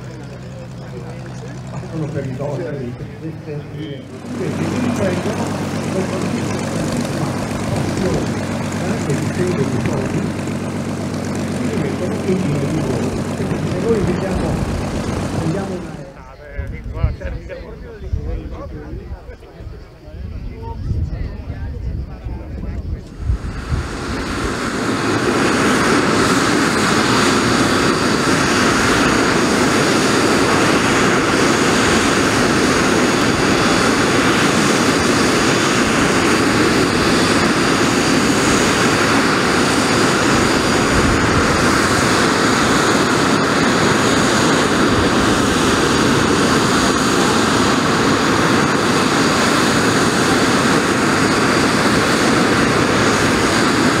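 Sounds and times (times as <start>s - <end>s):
jet engine roar: 0.0s - 54.0s
turbine whine: 0.0s - 54.0s.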